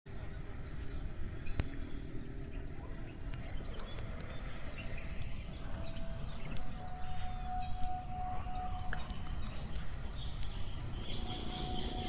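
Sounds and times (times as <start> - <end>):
birds chirping: 0.1 - 12.0
wind through tree leaves: 0.1 - 12.0.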